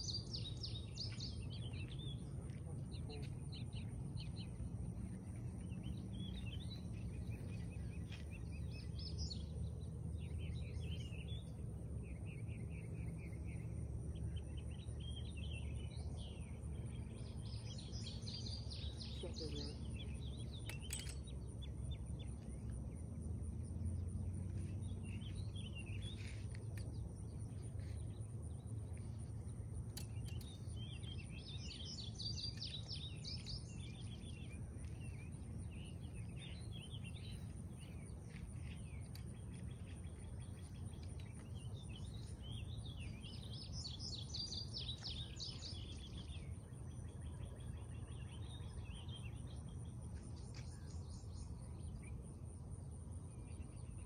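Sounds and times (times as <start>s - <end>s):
low steady rumble: 0.0s - 54.0s
songbirds singing: 0.0s - 54.0s.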